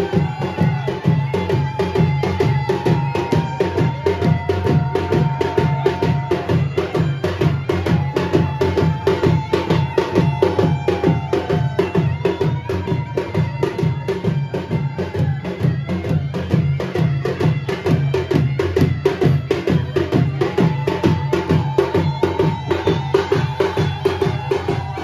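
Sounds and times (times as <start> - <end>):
drums beaten fast: 0.0 - 25.0.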